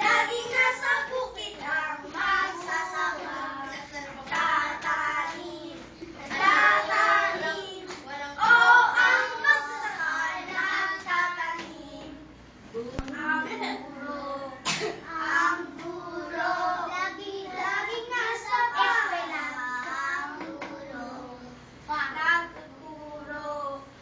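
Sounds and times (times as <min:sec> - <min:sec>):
children singing together: 0:00.0 - 0:12.3, 0:13.4 - 0:21.6.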